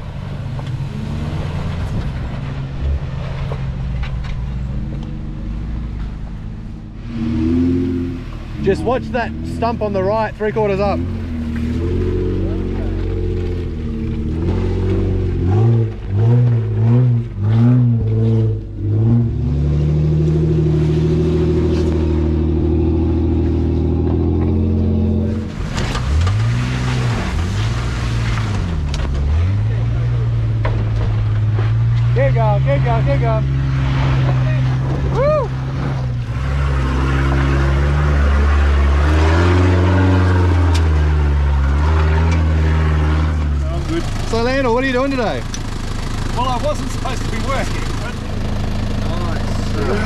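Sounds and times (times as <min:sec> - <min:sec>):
engine revving: 0:00.0 - 0:50.0.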